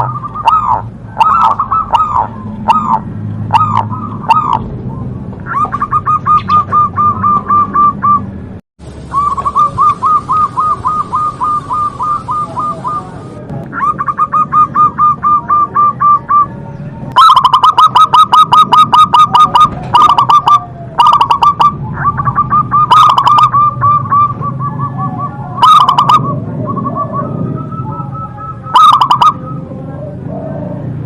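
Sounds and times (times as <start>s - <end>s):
doves cooing: 0.0s - 8.4s, 9.0s - 31.0s.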